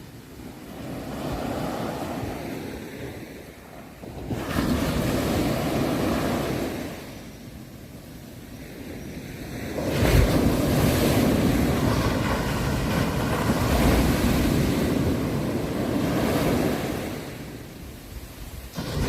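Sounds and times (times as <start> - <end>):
ocean waves breaking on shore: 0.0 - 19.0
wind noise on microphone: 0.0 - 19.0.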